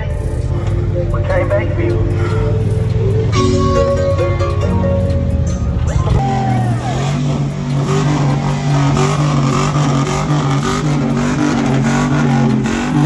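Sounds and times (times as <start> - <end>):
truck engine running loudly: 0.0 - 13.0.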